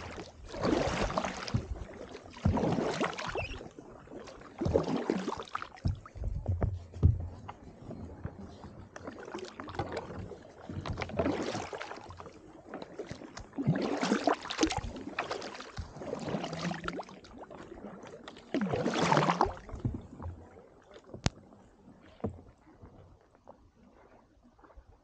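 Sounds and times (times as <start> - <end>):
paddles swishing through slushy water: 0.0 - 25.0.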